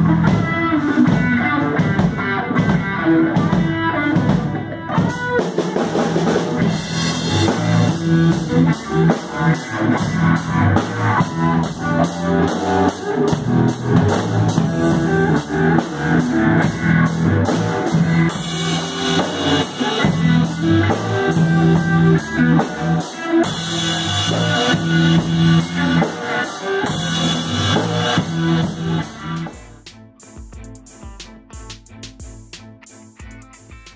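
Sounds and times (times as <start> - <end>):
electric guitar: 0.0 - 30.4, 32.7 - 33.9
drum kit beat: 0.0 - 33.9.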